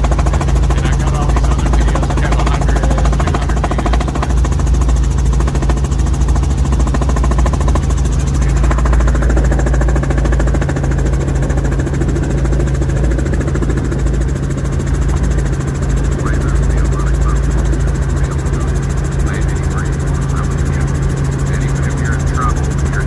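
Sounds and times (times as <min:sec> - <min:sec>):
helicopter cabin drone: 0:00.0 - 0:23.0.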